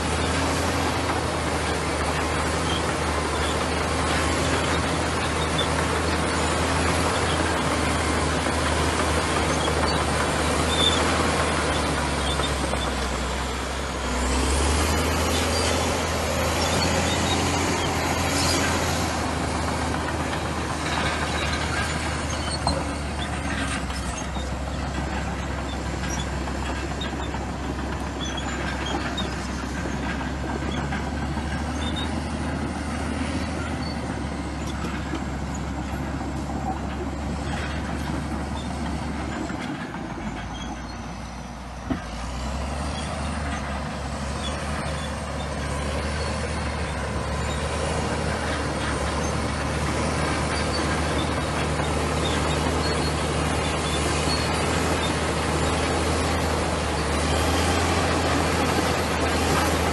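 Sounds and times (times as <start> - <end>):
bulldozer diesel engine drone: 0.0 - 59.9.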